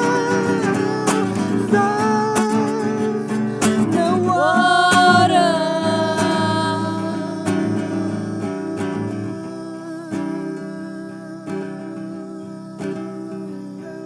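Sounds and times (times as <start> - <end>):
acoustic guitar strumming: 0.0 - 14.0
person singing: 0.0 - 14.0.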